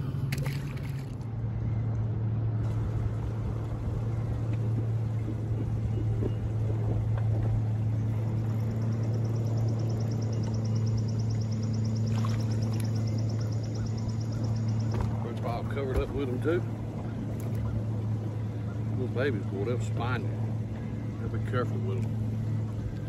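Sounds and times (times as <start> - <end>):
boat motor humming: 0.0 - 23.0.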